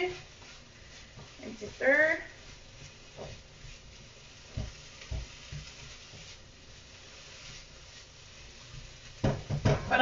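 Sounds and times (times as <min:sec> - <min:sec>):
spatula stirring in a pan: 0:00.0 - 0:10.0
vegetables sizzling in a pan: 0:00.0 - 0:10.0.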